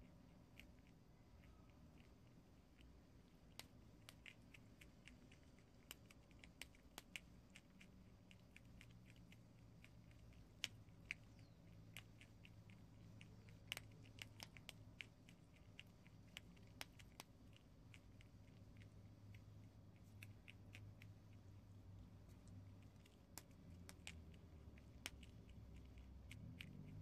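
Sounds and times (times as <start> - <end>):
faint low hum: 0.0 - 27.0
small animal crunching dry noodles: 0.0 - 27.0.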